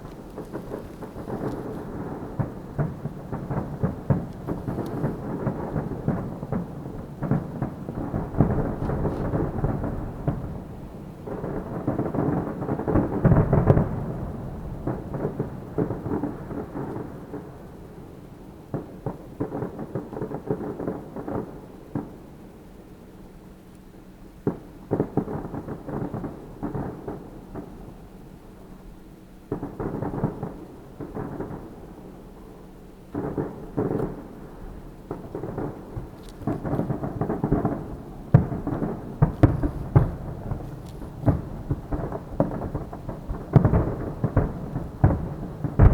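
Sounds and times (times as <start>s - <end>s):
fireworks bursting and crackling: 0.0s - 22.3s, 24.4s - 28.8s, 29.5s - 45.9s.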